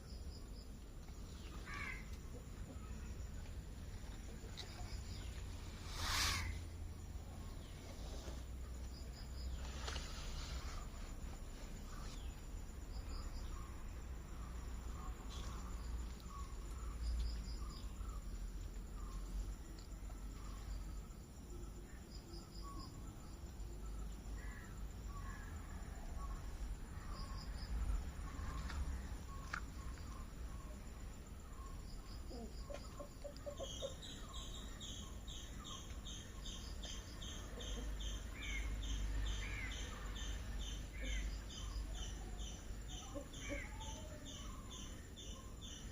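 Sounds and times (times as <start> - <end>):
insects calling: 0.0 - 45.9.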